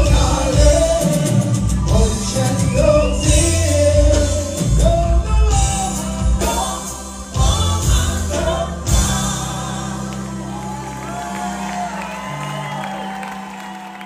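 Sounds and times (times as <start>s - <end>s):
person singing: 0.0s - 11.6s
crowd noise: 0.0s - 14.0s
live band music: 0.0s - 14.0s.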